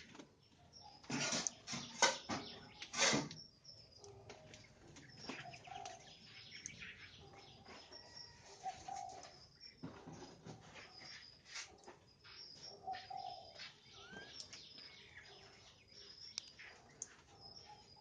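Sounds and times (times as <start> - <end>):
birds hopping and rustling: 0.0 - 18.0.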